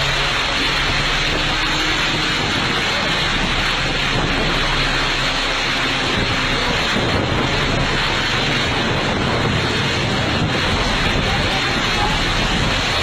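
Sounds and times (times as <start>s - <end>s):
loud steady rushing noise: 0.0s - 13.0s
low hum: 0.0s - 13.0s.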